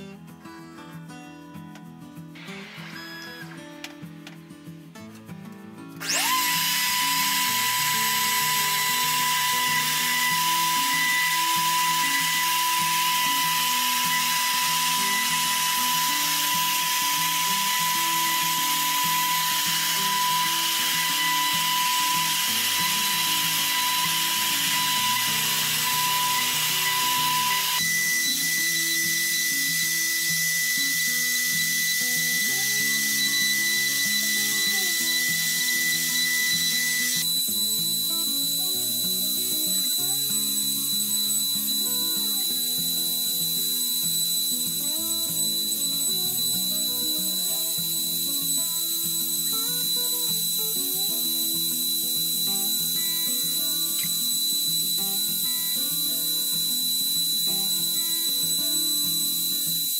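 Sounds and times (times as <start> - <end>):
router motor high-pitched whine: 2.4 - 3.9, 6.0 - 59.9.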